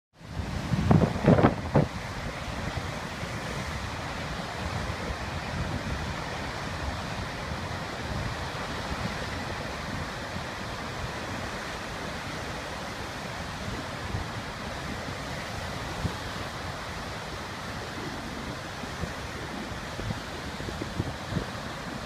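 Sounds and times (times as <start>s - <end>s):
surf breaking over rocks: 0.2s - 22.0s
wind rumbling on microphone: 0.2s - 22.0s.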